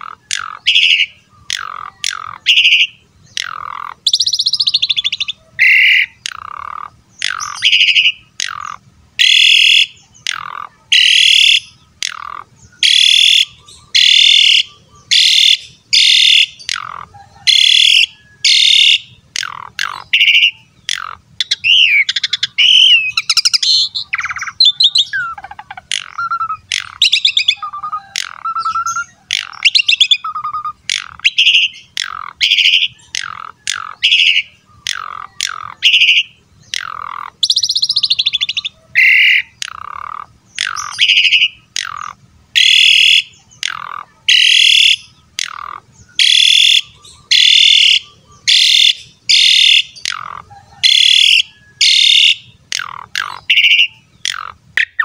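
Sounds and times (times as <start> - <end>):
myna harsh calls: 0.0 - 55.0.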